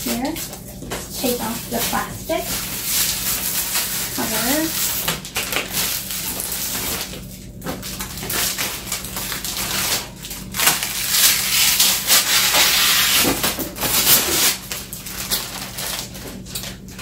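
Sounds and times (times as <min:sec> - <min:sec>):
plastic sheet crinkling: 0:00.0 - 0:17.0.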